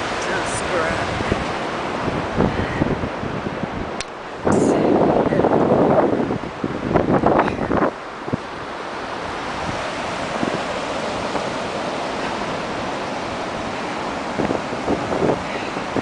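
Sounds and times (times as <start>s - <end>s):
ocean surf breaking: 0.0s - 16.0s
wind on microphone: 0.0s - 16.0s.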